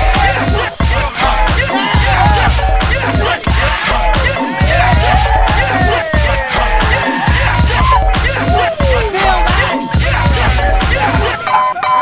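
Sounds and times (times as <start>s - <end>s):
hip-hop beat with heavy bass: 0.0s - 12.0s.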